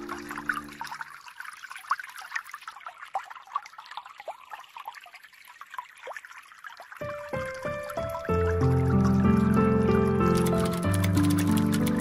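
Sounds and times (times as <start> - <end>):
babbling stream: 0.0 - 10.0.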